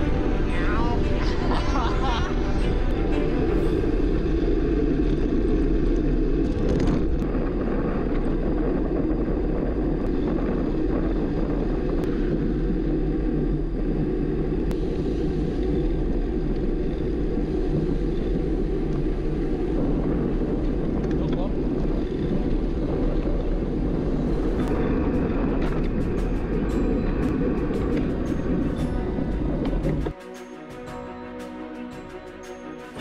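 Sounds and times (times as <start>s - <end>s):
road noise: 0.0s - 33.0s
wind rumble: 0.0s - 33.0s.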